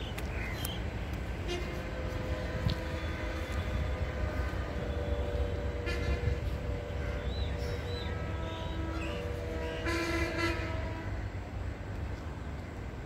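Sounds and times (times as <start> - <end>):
distant train tones: 0.0 - 13.0.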